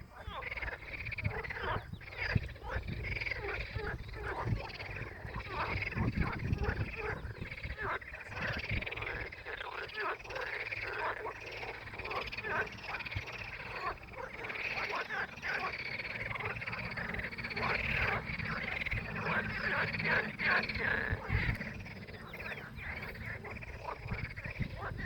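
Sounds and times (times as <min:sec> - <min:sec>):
frogs croaking in chorus: 0:00.0 - 0:25.0.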